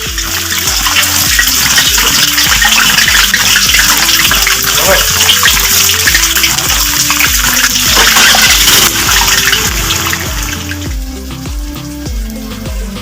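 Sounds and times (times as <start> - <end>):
background music: 0.0 - 13.0
frying in oil sizzle: 0.0 - 13.0.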